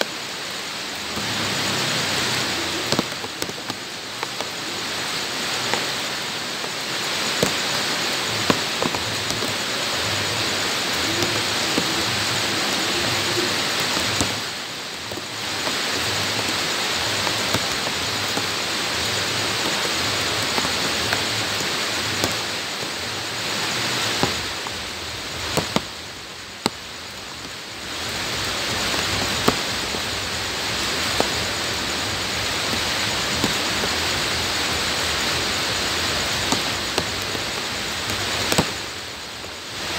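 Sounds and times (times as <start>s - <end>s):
rain on wet ground: 0.0s - 39.9s.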